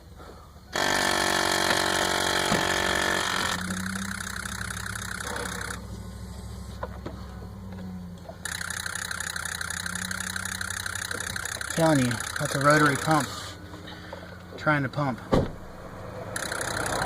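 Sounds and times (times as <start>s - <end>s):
mechanical whine from engine bay: 0.8s - 14.4s, 15.6s - 17.0s.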